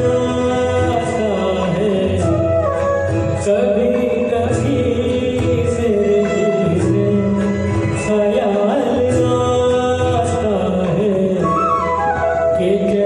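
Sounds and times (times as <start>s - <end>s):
backing track with percussion: 0.0s - 13.0s
man singing: 0.0s - 13.0s.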